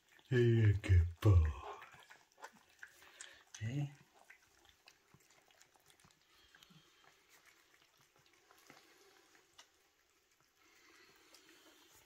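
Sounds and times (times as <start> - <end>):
cats chewing and lapping: 0.0 - 12.0.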